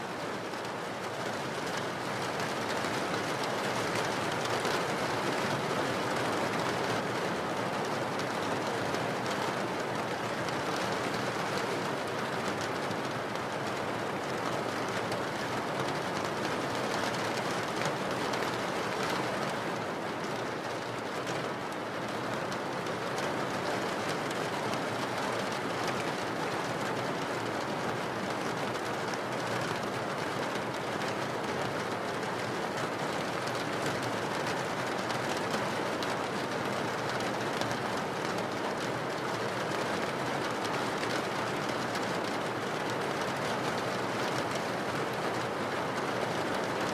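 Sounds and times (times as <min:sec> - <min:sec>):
rain falling on a window: 0:00.0 - 0:46.9.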